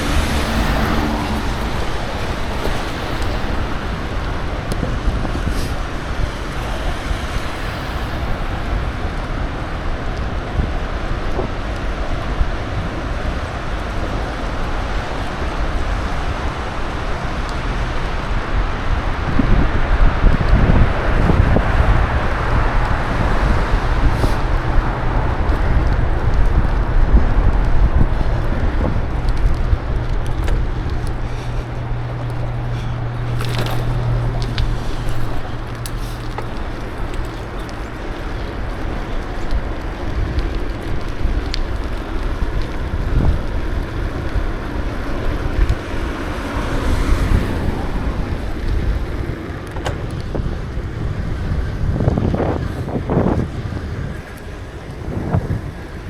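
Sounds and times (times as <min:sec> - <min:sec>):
road traffic noise: 0:00.0 - 0:56.0
wind buffeting microphone: 0:00.0 - 0:56.0.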